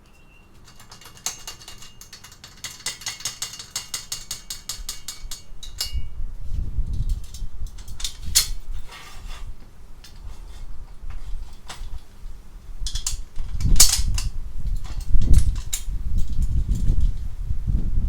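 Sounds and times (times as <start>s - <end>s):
metal tools clinking: 0.0s - 6.2s, 6.9s - 12.2s, 12.8s - 17.1s.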